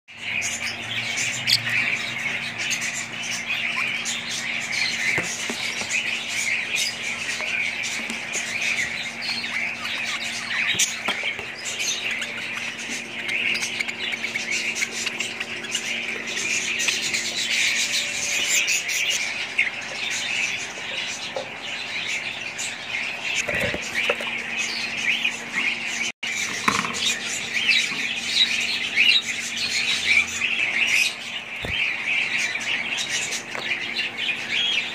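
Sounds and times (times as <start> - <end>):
budgerigars chattering and chirping: 0.1 - 34.9
steady low hum: 0.1 - 34.9.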